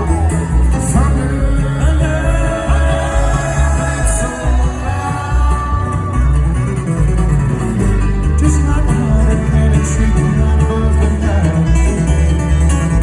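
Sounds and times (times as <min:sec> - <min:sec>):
acoustic guitar: 0:00.0 - 0:13.0
bluegrass band playing live: 0:00.0 - 0:13.0
booming bass line: 0:00.0 - 0:13.0.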